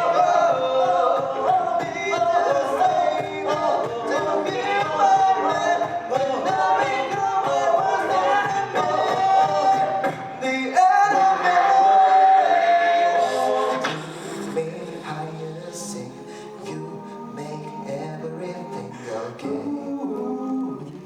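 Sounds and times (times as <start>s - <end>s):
vocal group singing in harmony: 0.0s - 21.0s.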